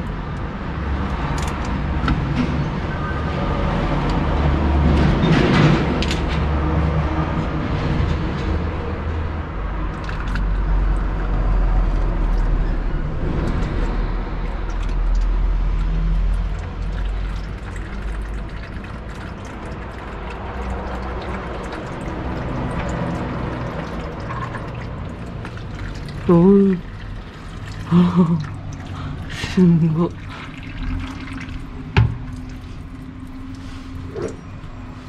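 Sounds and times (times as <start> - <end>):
oil dripping into metal bucket: 0.0 - 35.0.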